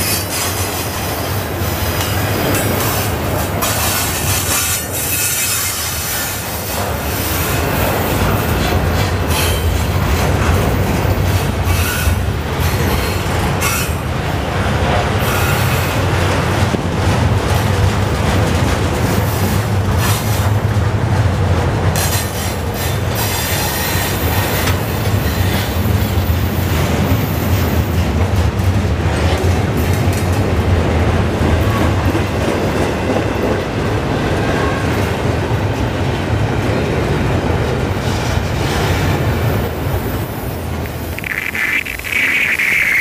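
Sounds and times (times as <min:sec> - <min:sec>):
freight train wheels rumbling on rails: 0:00.0 - 0:43.0.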